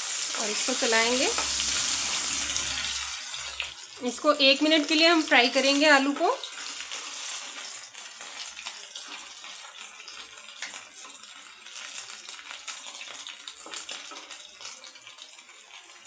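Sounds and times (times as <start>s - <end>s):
potatoes sizzling in hot fat: 0.0s - 16.0s.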